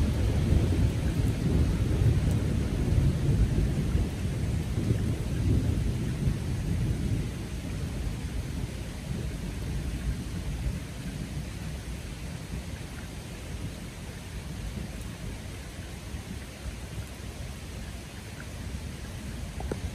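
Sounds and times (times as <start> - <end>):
low rumble of thunder: 0.0 - 19.9
rain falling: 0.0 - 19.9.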